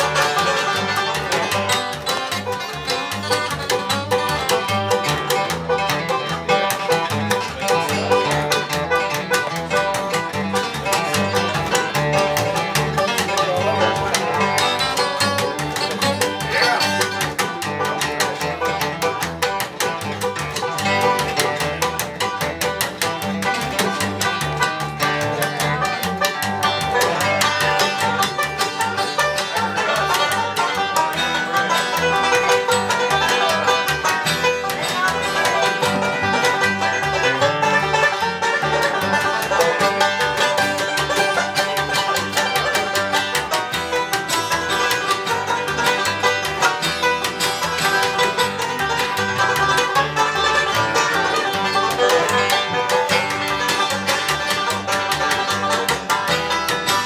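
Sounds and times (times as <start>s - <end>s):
acoustic guitar picking: 0.0s - 57.0s
upright bass: 0.0s - 57.0s.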